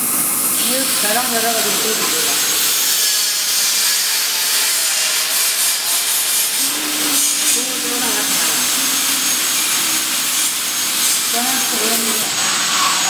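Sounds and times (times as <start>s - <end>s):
laser cutter gas hiss: 0.0s - 13.0s.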